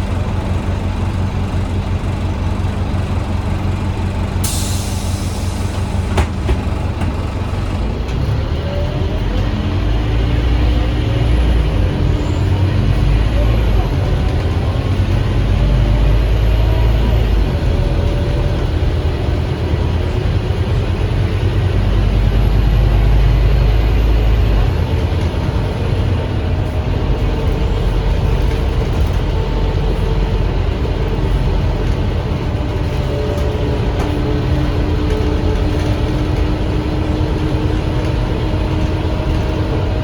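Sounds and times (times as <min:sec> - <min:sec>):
bus diesel engine droning: 0:00.0 - 0:40.0.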